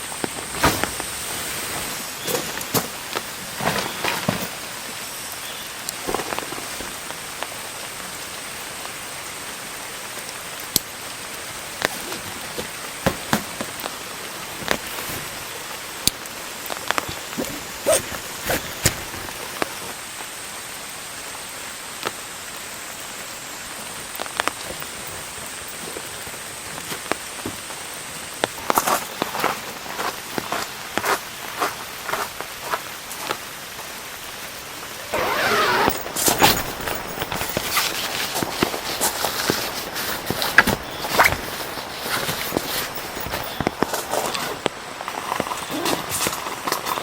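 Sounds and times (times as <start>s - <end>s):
rain falling: 0.0s - 47.0s.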